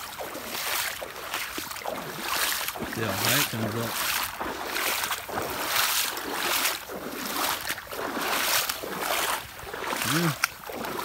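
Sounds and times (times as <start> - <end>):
wading through water: 0.0 - 11.0
water splashing and sloshing: 0.0 - 11.0.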